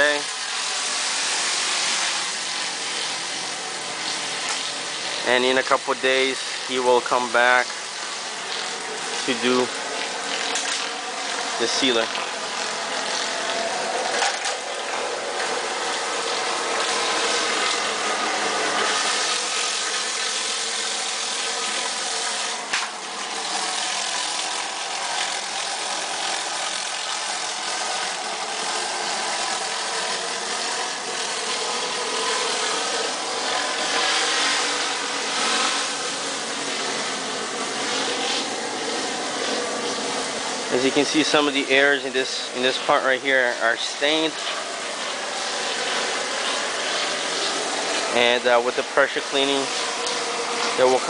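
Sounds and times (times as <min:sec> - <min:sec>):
pressure washer engine running: 0:00.0 - 0:51.0
water spraying pavers: 0:00.0 - 0:51.0.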